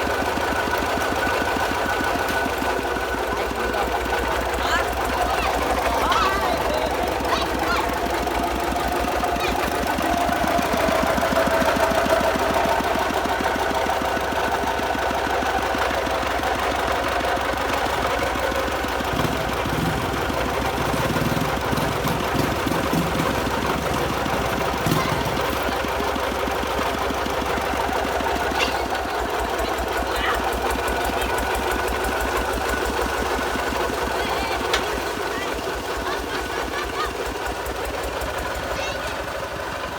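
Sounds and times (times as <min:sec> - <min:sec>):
tractor engine knocking: 0:00.0 - 0:39.9.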